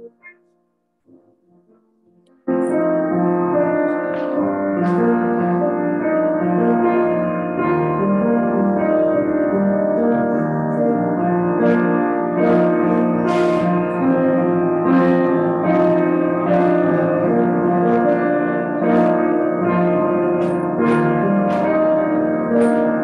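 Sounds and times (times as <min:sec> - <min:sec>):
solo piano piece: 0:00.0 - 0:00.4, 0:01.1 - 0:23.0.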